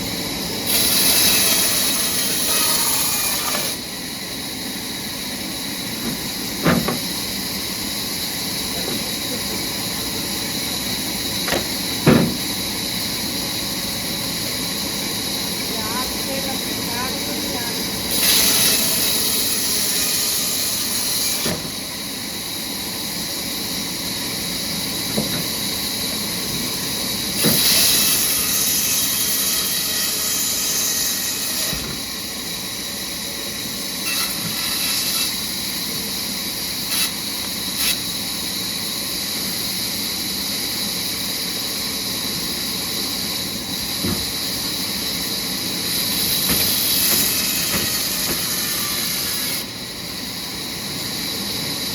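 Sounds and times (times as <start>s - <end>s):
sawmill saw cutting logs: 0.0s - 40.3s, 41.4s - 49.8s.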